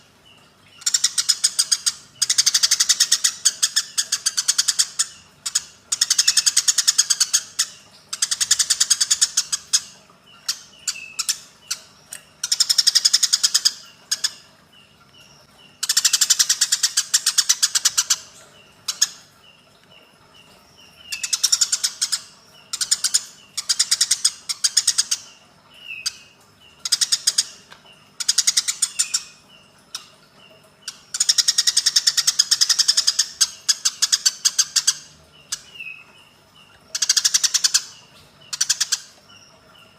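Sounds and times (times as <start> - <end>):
sparrows harsh chattering calls: 0.0 - 39.9.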